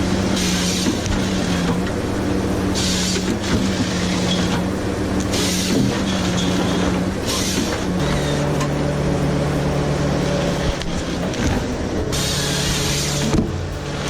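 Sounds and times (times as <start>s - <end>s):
bursts of hissing air: 0.0s - 14.0s
heavy diesel engine running: 0.0s - 14.0s.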